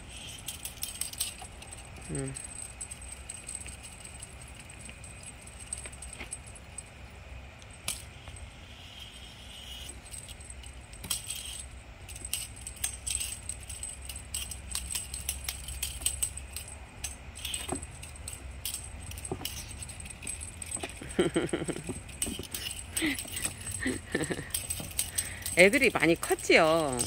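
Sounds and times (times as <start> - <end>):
cat toy jingling and clicking: 0.0 - 7.1, 7.7 - 27.0.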